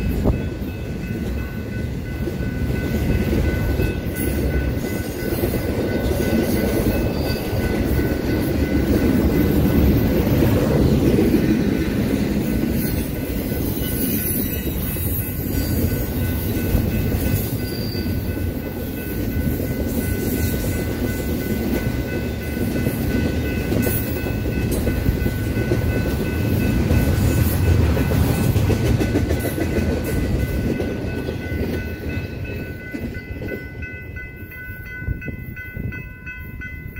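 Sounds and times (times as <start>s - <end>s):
freight train wheels rumbling: 0.0s - 36.9s.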